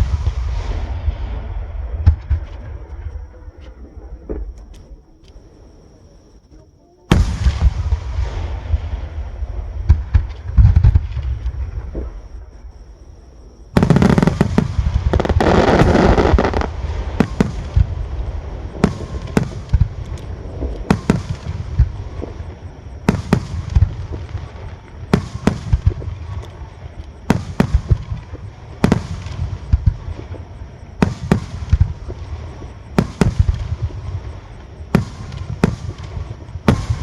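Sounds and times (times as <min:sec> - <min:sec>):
firework bursts and crackling: 0:00.0 - 0:02.8, 0:07.1 - 0:12.3, 0:13.7 - 0:37.0.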